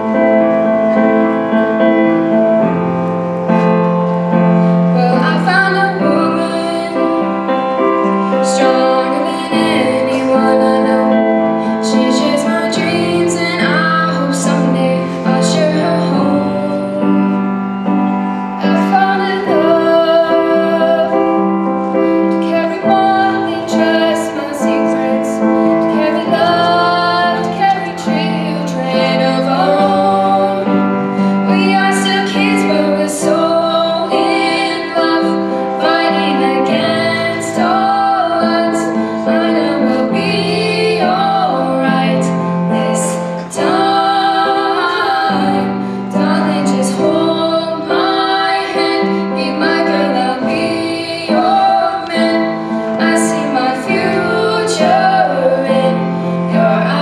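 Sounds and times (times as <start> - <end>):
digital piano chords: 0.0 - 57.0
girl singing into a microphone: 4.9 - 57.0.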